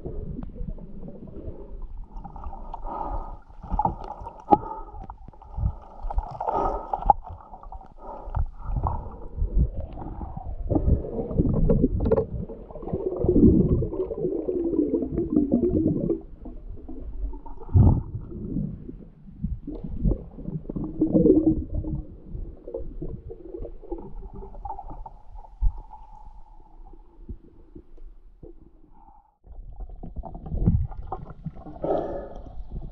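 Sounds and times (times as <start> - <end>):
water gurgling underwater: 0.0 - 26.2, 29.5 - 32.9.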